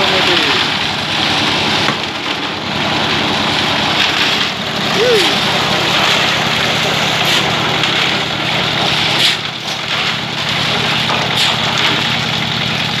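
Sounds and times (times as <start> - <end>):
concrete churning in mixer: 0.0 - 13.0
concrete mixer engine drone: 0.0 - 13.0.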